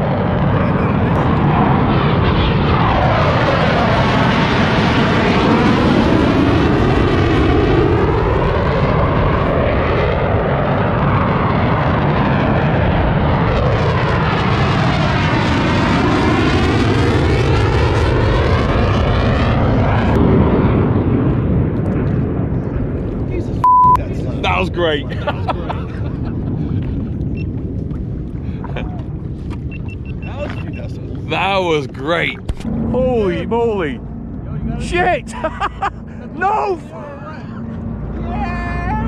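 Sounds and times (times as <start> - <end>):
jets flying low overhead: 0.0 - 39.0.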